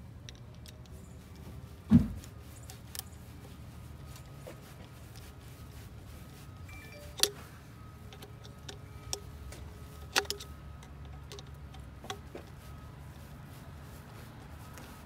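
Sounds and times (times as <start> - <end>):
low steady hum: 1.8 - 14.6.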